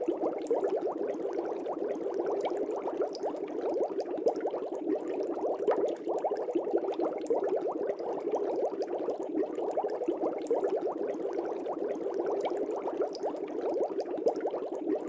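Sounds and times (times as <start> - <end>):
aquarium air bubbles: 0.0 - 15.0.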